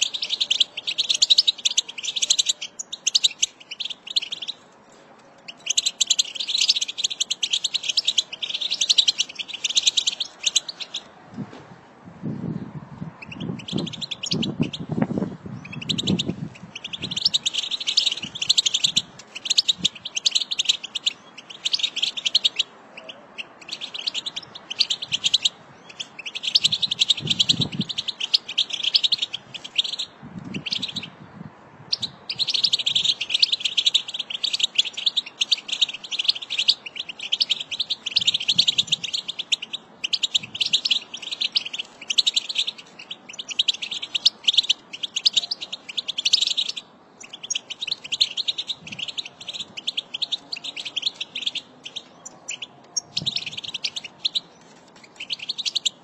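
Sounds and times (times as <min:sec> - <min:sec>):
bird twittering song: 0:00.0 - 0:04.7, 0:05.3 - 0:11.2, 0:12.2 - 0:56.0.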